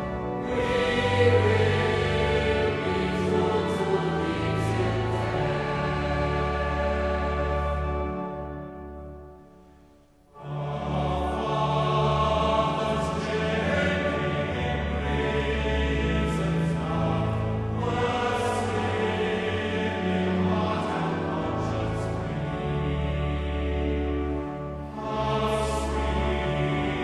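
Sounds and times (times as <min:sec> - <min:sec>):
choir singing slow chords: 0:00.0 - 0:27.0.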